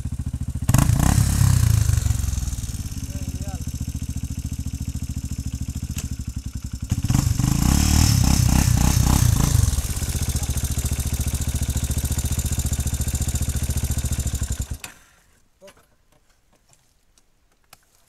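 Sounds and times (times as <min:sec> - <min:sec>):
quad engine idling and revving: 0:00.0 - 0:15.0.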